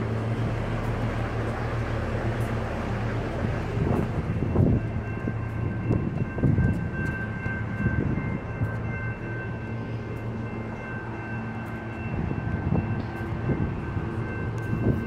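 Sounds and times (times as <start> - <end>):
diesel train idling: 0.0 - 15.0.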